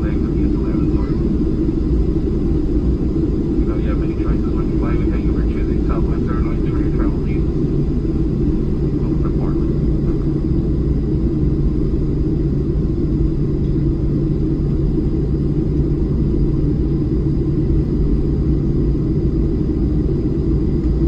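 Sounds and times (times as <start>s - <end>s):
airplane cabin rumble: 0.0s - 21.0s
faint high whine: 0.0s - 21.0s.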